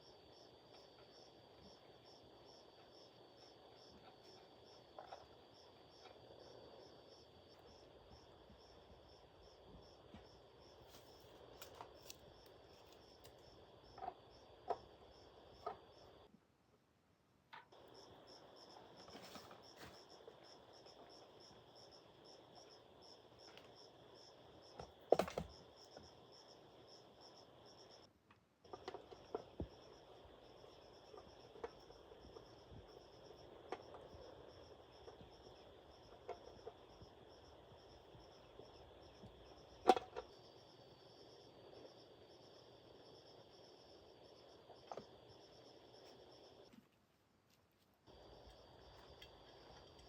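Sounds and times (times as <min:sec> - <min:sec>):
insects chirping: 0:00.0 - 0:16.3, 0:17.6 - 0:46.8, 0:48.1 - 0:50.0.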